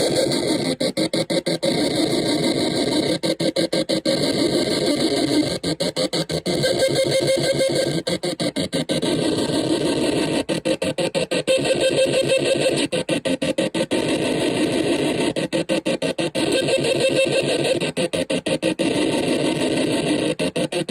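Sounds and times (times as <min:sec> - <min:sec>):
stuttering electronic drone: 0:00.0 - 0:20.9.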